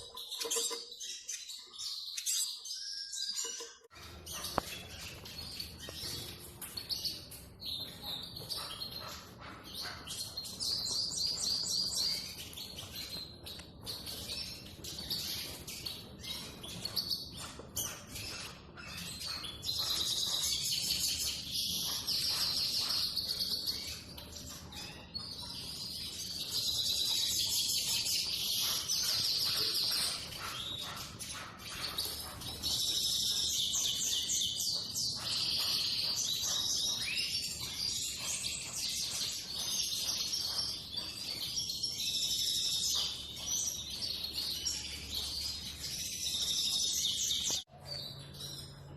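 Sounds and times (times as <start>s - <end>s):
siskin twittering song: 0.0s - 48.9s.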